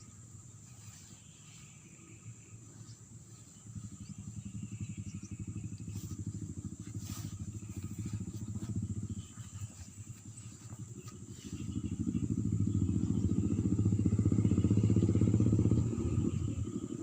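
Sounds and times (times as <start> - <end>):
high insect buzz: 0.0 - 17.0
small motorcycle engine running: 0.0 - 17.0.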